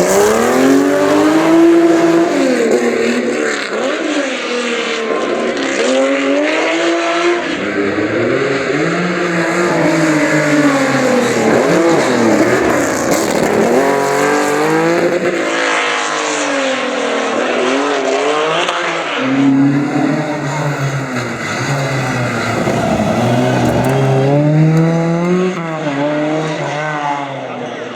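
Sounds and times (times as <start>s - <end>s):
rally car engines revving: 0.0s - 27.9s.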